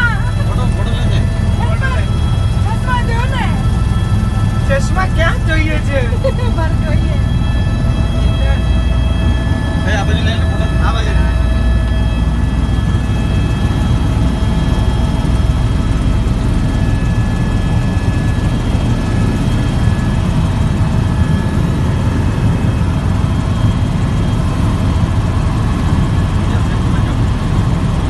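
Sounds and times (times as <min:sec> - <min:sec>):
helicopter rotor and engine rumble: 0:00.0 - 0:28.0.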